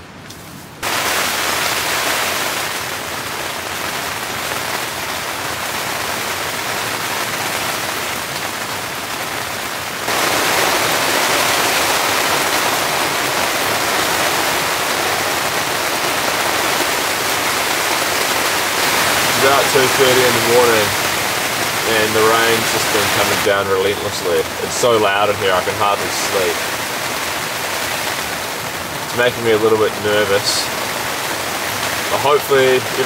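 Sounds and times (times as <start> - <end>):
heavy rain on a tent: 0.0 - 33.0.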